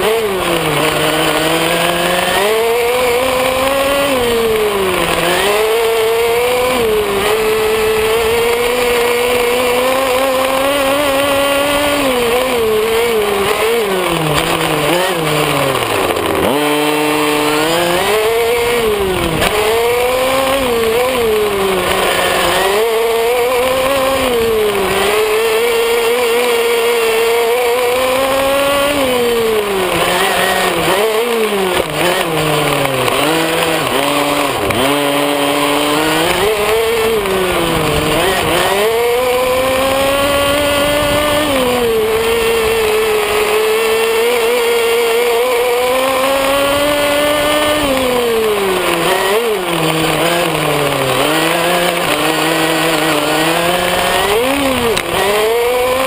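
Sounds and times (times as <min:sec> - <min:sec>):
small engine revving: 0:00.0 - 0:56.0.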